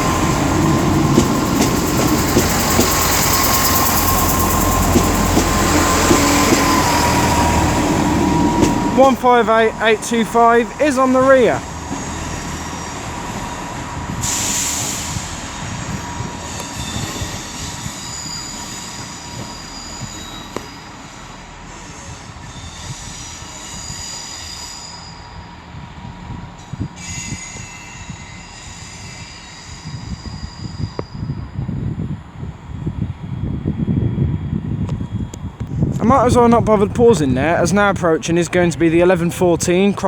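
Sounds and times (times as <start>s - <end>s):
train wheels squealing: 0.0s - 32.2s
low train rumble: 0.0s - 40.0s.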